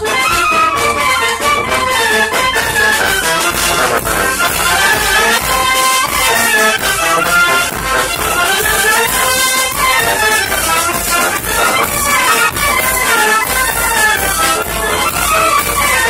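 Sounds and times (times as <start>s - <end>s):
saxophone: 0.0s - 16.0s
wind band playing dance tune: 0.0s - 16.0s.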